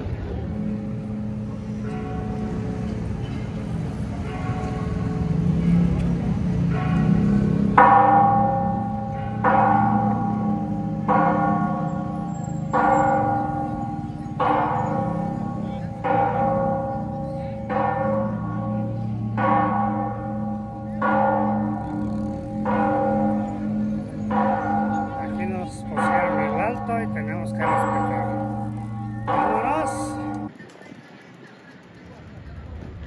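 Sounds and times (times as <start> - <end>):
large bell tolling: 0.0 - 30.5.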